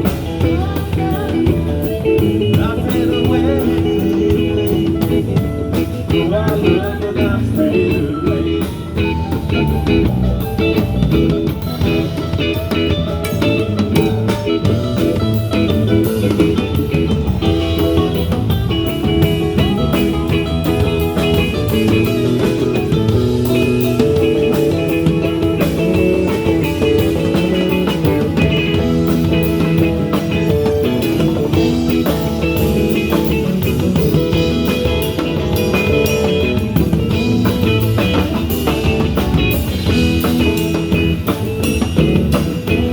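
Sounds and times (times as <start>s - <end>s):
blues-rock band playing: 0.0s - 42.9s.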